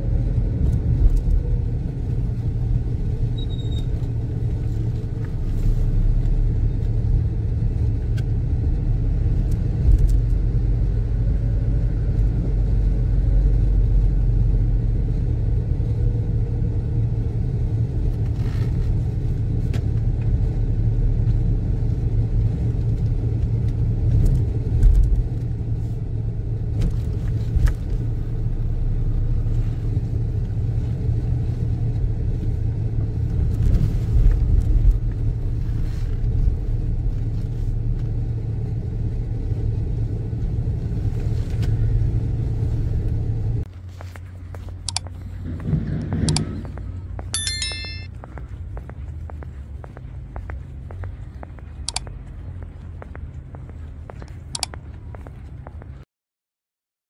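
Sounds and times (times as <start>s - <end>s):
car engine and tyre noise: 0.0s - 56.0s.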